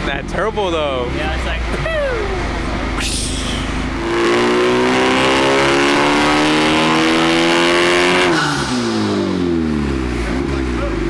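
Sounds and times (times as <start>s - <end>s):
car engine revving: 0.2s - 11.0s.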